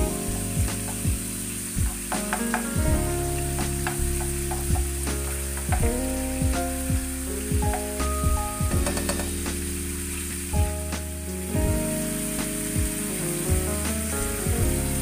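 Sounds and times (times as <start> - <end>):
background music with beat: 0.0 - 15.0
garlic and chicken sizzling in oil: 0.1 - 15.0.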